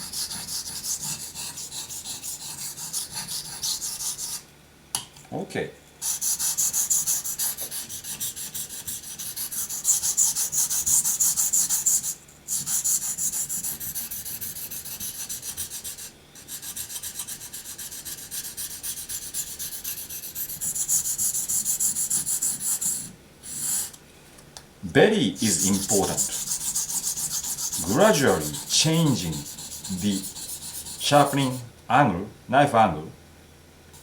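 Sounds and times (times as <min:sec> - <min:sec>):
knife rasping on whetstone: 0:00.0 - 0:04.4, 0:06.0 - 0:24.0, 0:25.4 - 0:31.6.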